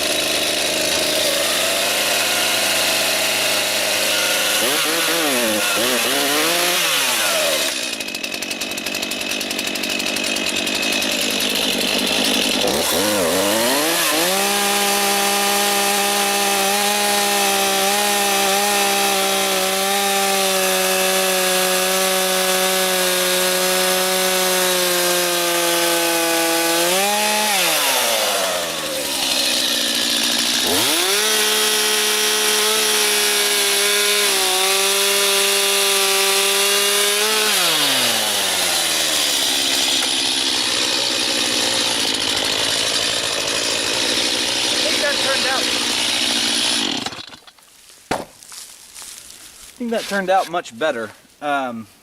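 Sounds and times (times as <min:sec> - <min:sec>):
chainsaw cutting log: 0:00.0 - 0:51.0.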